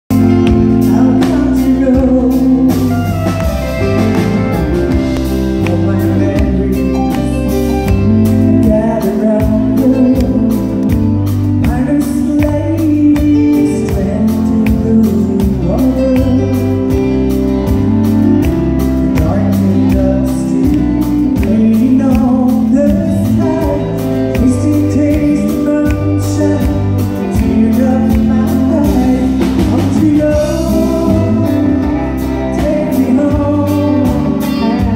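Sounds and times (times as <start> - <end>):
amplified backing music: 0.0 - 34.9.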